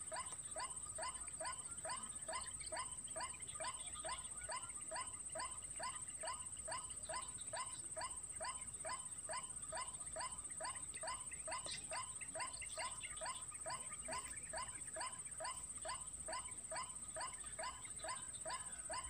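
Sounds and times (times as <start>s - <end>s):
recorded bird call: 0.0s - 19.0s.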